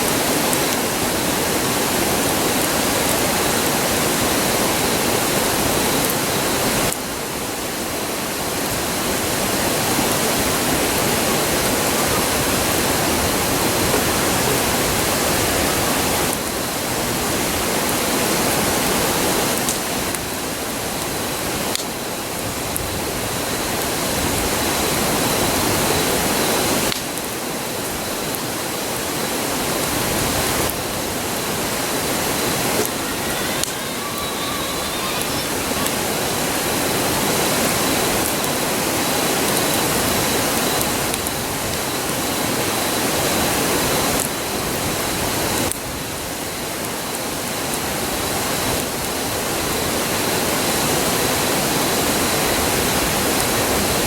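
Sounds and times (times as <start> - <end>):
river rushing: 0.0 - 22.4, 23.2 - 54.0.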